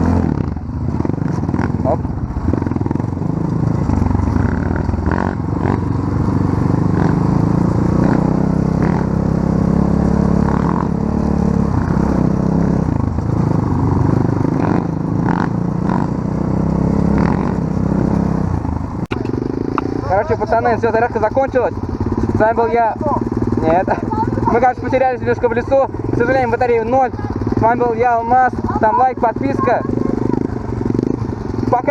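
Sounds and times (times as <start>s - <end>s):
off-road vehicle engine: 0.0s - 31.9s.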